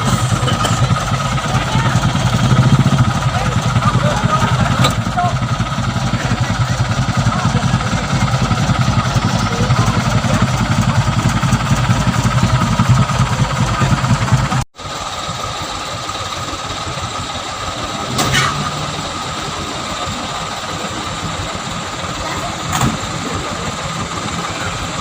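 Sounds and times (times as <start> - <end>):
quieter steady engine: 0.0 - 25.0
truck engine heavy low throb: 0.0 - 25.0.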